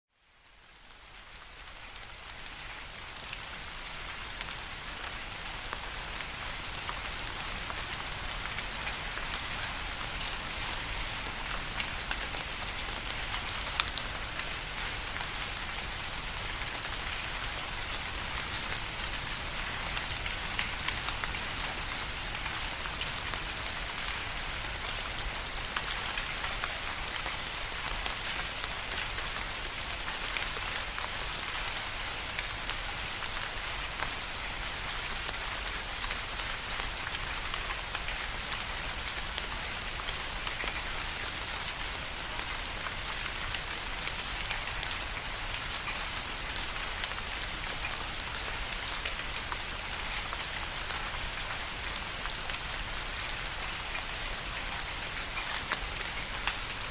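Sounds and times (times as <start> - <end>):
steady rain falling: 0.1 - 56.9
raindrops ticking close by: 0.2 - 56.9.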